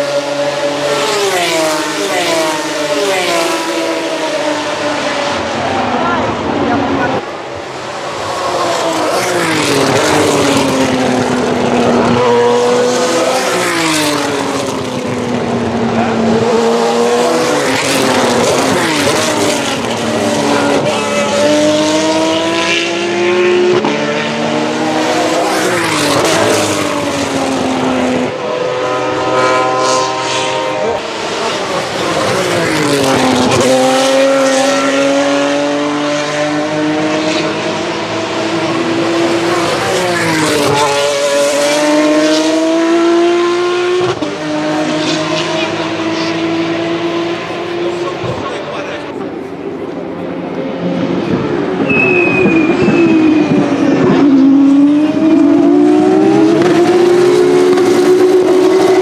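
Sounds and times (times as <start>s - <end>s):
race car engines downshifting: 0.0s - 59.0s.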